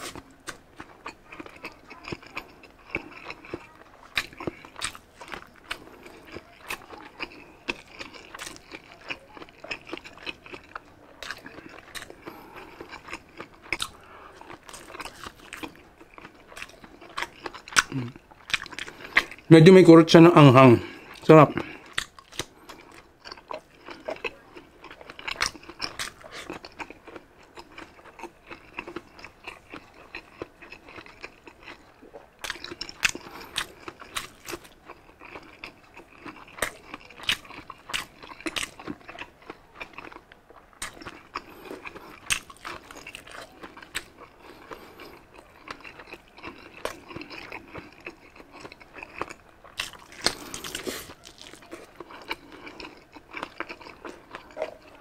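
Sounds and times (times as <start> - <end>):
person chewing sausage: 0.0 - 55.0.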